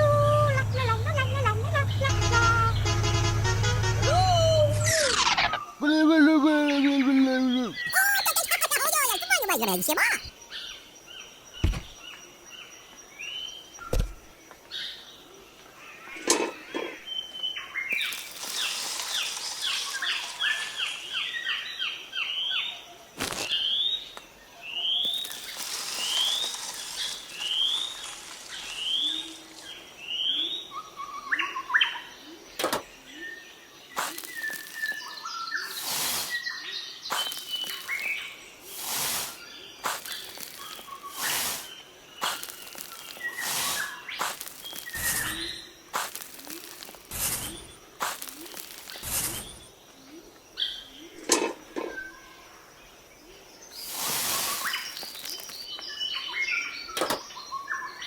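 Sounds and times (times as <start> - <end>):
birds chirping: 0.0 - 3.2, 6.6 - 22.8, 23.5 - 51.3, 52.8 - 58.0.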